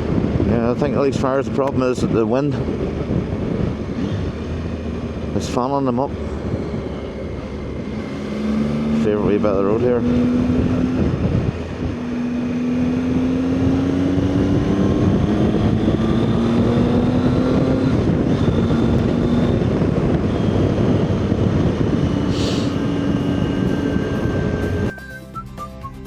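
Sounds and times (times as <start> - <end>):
wind rushing over microphone: 0.0 - 25.0
motorcycle engine accelerating: 0.0 - 25.2.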